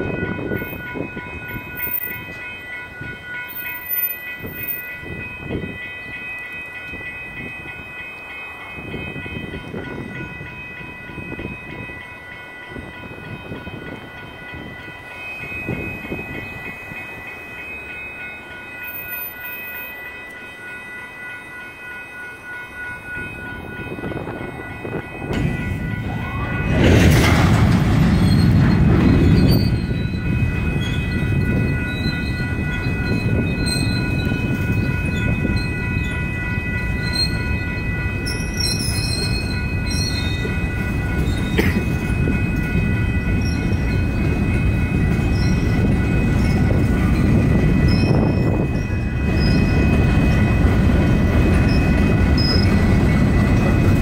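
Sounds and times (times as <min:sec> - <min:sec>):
freight train rumbling and knocking: 0:00.0 - 0:20.4, 0:22.7 - 0:54.0
railroad crossing bells ringing: 0:00.0 - 0:54.0.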